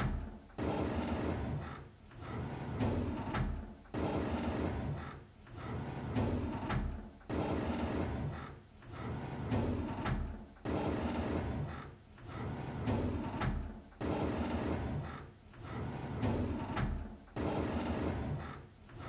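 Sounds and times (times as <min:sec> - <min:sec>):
drawer sliding open: 0:00.0 - 0:19.0.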